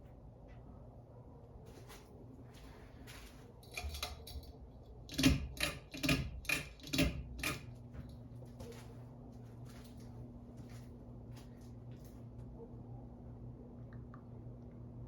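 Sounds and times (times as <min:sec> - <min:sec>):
ceiling fan hum: 0:00.0 - 0:15.0.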